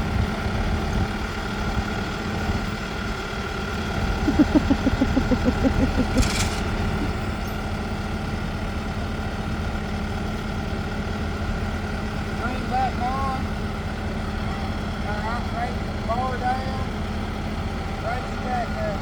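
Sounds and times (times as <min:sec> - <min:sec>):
farm machine engine idling: 0:00.0 - 0:19.0.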